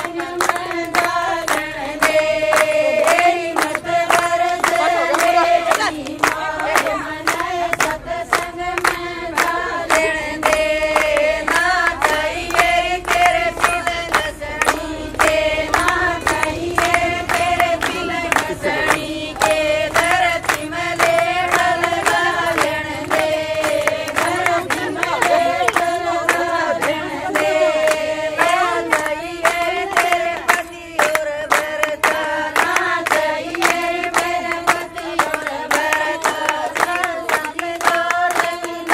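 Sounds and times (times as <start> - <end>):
hand clapping: 0.0 - 38.9
women singing folk song: 0.0 - 38.9.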